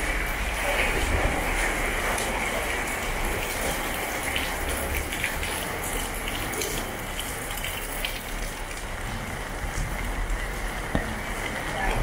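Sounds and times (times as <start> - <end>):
water rushing in heavy rain: 0.0 - 12.0.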